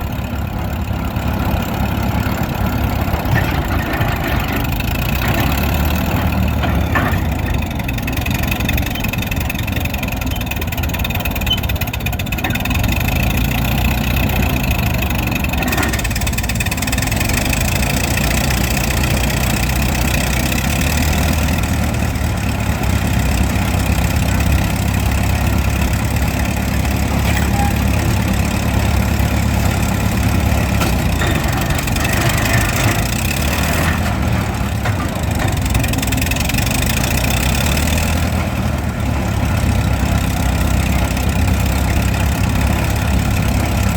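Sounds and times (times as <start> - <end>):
large engine idling: 0.0 - 43.9.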